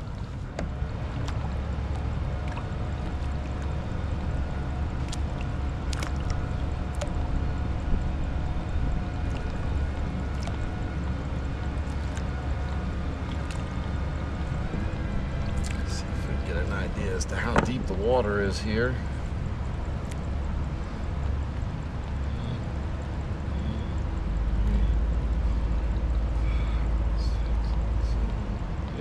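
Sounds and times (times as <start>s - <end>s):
water gurgling: 0.0s - 27.9s
faint steady tones: 0.0s - 29.0s.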